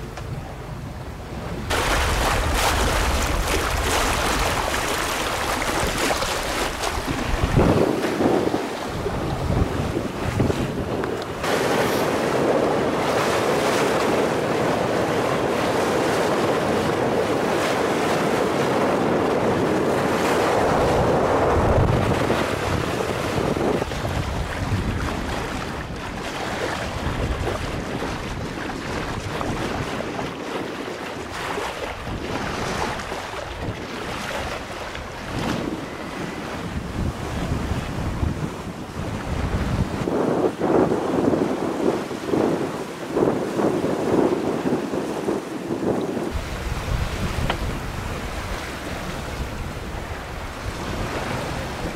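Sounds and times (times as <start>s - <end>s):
water splashing along hull: 0.0s - 51.9s
wind buffeting microphone: 0.0s - 51.9s.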